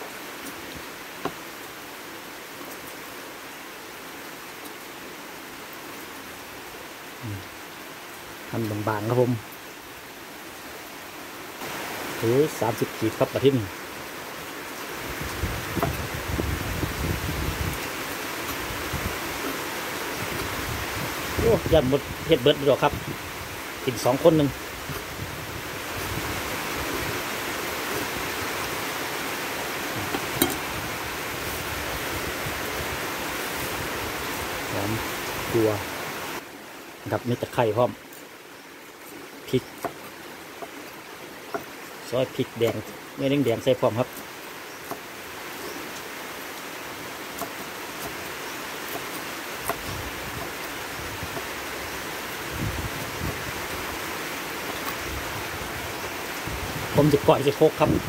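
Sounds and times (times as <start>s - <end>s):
rain falling: 0.0s - 58.0s
steady rushing hiss: 0.0s - 58.0s.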